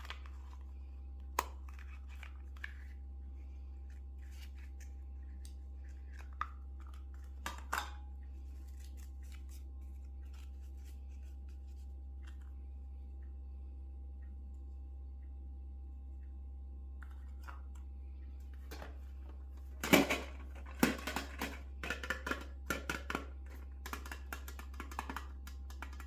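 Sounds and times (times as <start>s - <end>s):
low hum: 0.0s - 24.3s.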